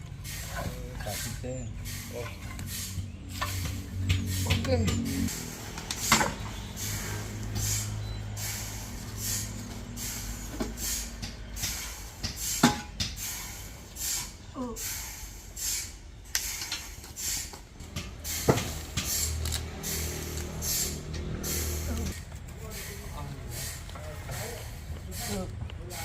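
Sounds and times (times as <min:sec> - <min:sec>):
hissing bursts: 0:00.2 - 0:26.0.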